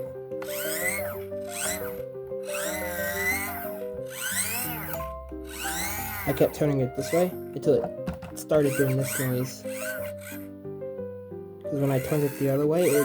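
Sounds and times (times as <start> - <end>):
gear mechanism whirring: 0.0 - 7.4, 8.4 - 10.5, 11.8 - 13.0
background music: 0.0 - 13.0.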